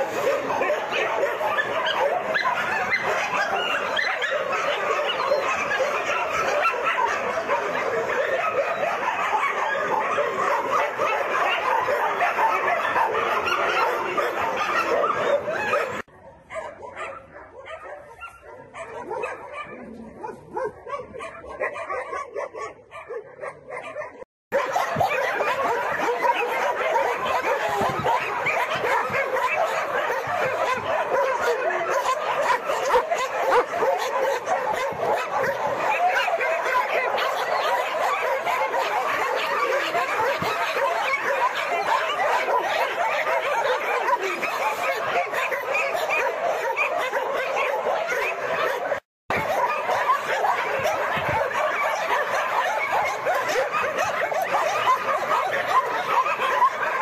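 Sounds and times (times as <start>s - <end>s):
many dogs barking: 0.0s - 57.0s.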